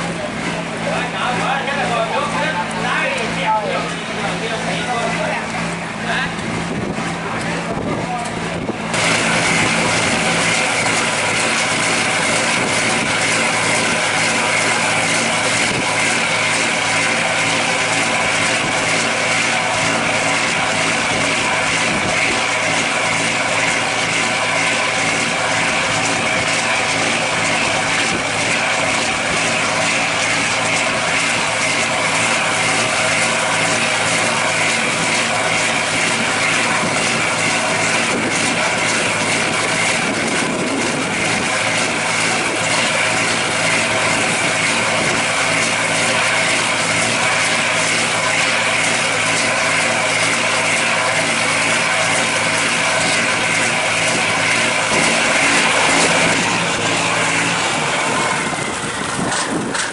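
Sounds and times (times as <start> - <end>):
diesel boat engine droning: 0.0 - 59.9.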